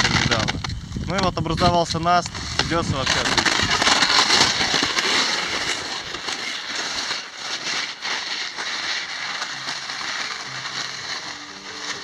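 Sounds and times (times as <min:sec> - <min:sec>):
skis scraping over icy snow: 0:00.0 - 0:12.0.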